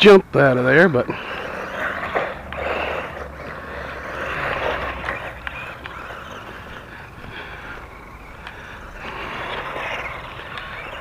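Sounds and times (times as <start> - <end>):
toy car whirring over wood chips: 0.5 - 11.0.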